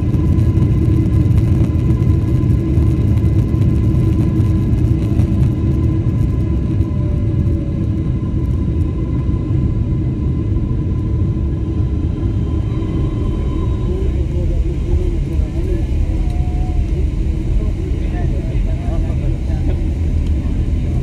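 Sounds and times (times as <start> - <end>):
jet engines and wheels rumbling: 0.0 - 21.0
thin steady whine: 0.0 - 21.0.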